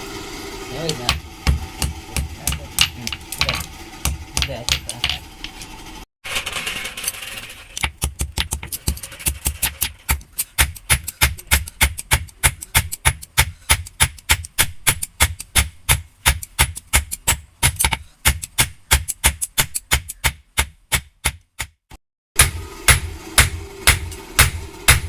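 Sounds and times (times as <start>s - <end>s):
hammer strikes on steel: 0.8s - 5.6s, 8.0s - 21.8s, 22.4s - 25.0s.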